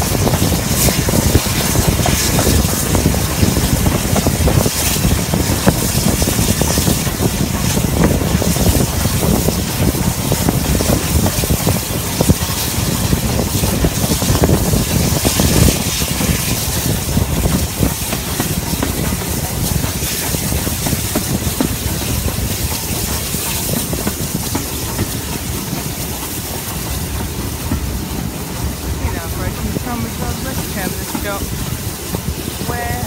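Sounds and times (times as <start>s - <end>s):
steam hiss and exhaust: 0.0s - 33.0s
train clattering over track: 0.0s - 33.0s.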